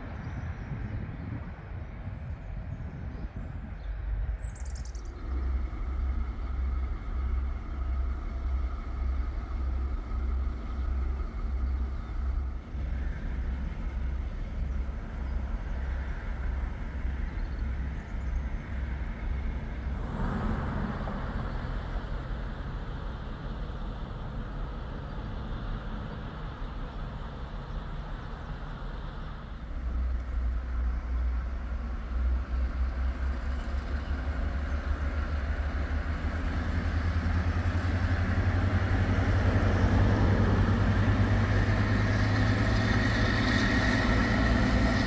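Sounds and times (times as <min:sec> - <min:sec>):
diesel locomotive engine throbbing: 0:00.0 - 0:45.0
rush of train noise: 0:00.0 - 0:45.0.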